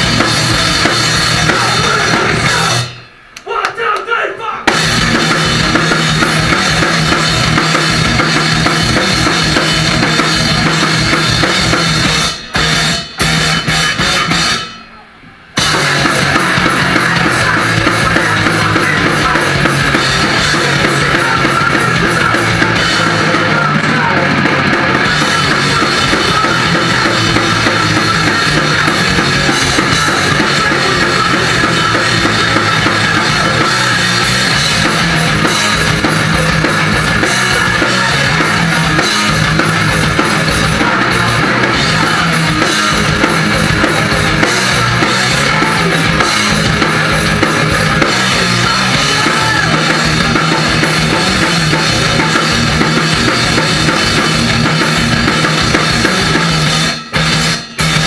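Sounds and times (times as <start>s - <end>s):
thrash band playing live: 0.0s - 3.8s, 4.6s - 58.0s.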